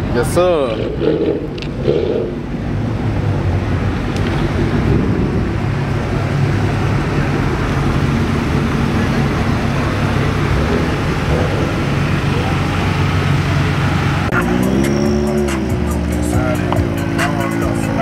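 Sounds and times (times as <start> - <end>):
car engine hum: 0.0 - 18.0
road traffic noise: 0.0 - 18.0.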